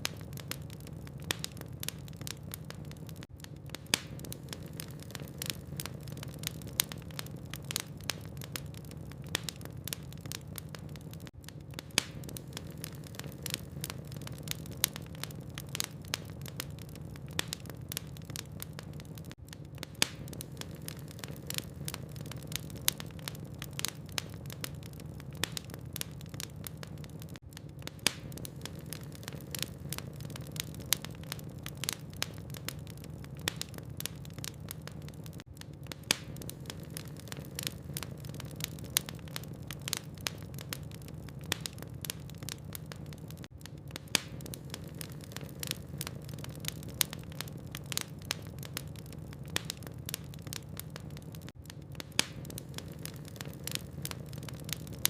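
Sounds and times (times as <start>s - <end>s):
low rumble of fire: 0.0s - 55.0s
wood logs crackling and popping: 0.0s - 55.0s.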